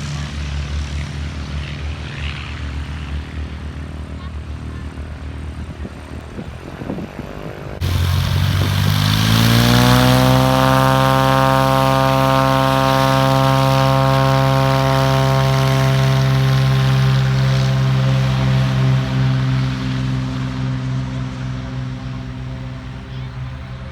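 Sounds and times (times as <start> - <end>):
propeller airplane engine throttling up: 0.0 - 23.9.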